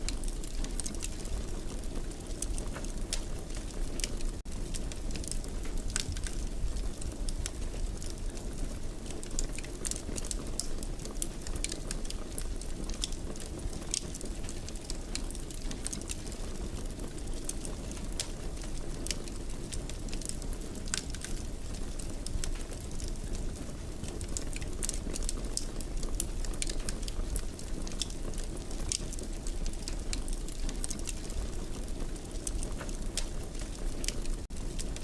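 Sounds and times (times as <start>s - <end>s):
fire crackling in a fireplace: 0.0s - 35.0s.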